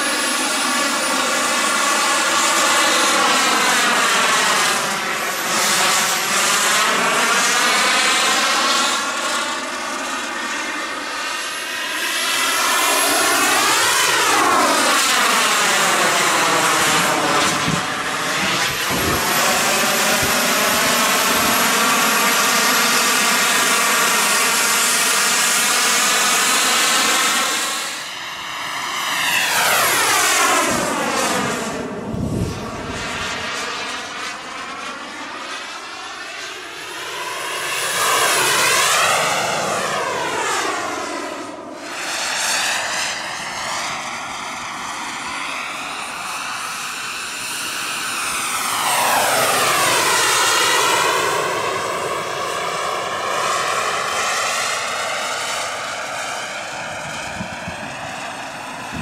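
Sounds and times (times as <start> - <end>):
high turbine whine: 0.0 - 59.0
jet passing by: 0.0 - 59.0.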